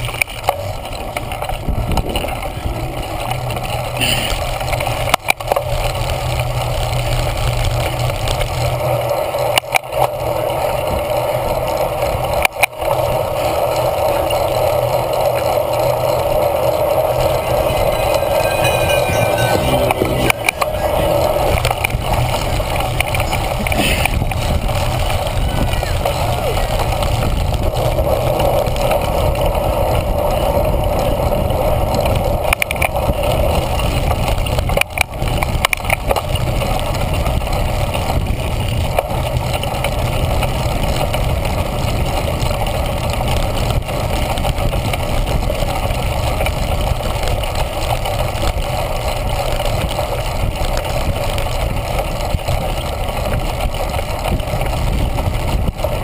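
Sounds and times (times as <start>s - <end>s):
wind on microphone: 0.0s - 4.9s, 15.7s - 56.0s
bike frame rattling: 0.0s - 56.0s
bike tyres on rough ground: 0.0s - 56.0s.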